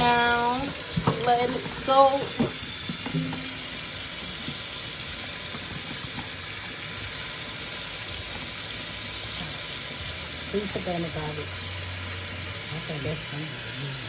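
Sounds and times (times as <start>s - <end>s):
faucet running into metal sink: 0.0s - 14.0s.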